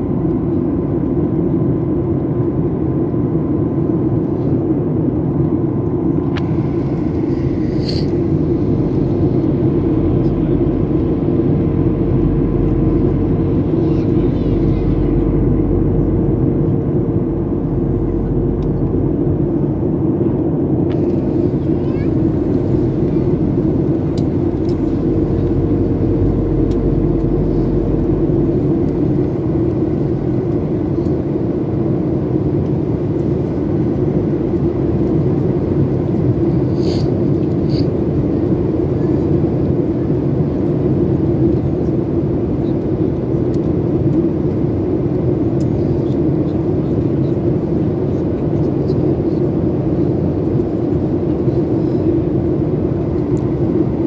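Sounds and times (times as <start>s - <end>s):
jet engine cabin rumble: 0.0s - 54.0s.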